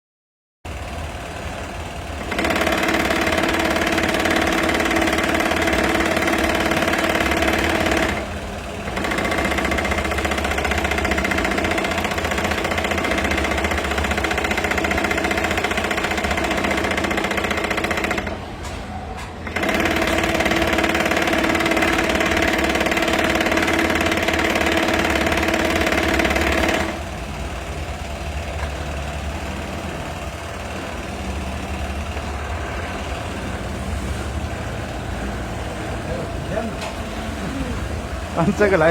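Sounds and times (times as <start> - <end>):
sewing machine running: 0.7 - 18.6, 19.4 - 34.0.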